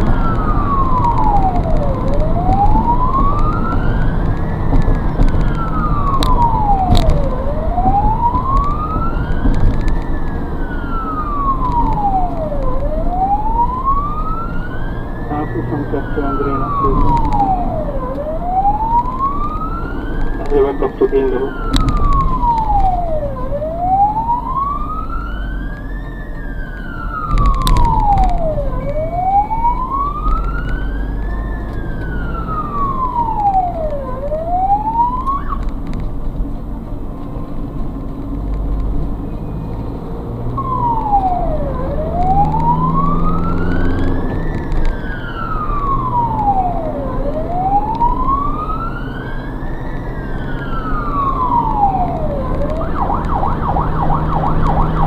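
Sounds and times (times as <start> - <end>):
ambulance wail siren: 0.0 - 55.0
engine and road noise: 0.0 - 55.0.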